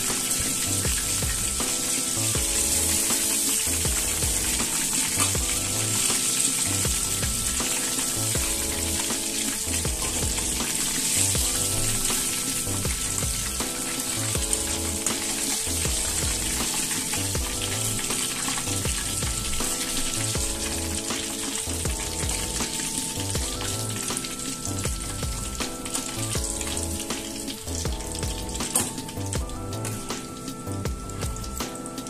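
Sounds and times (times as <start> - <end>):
background music with steady beat: 0.0 - 32.0
chicken sizzling in hot oil: 0.0 - 32.0.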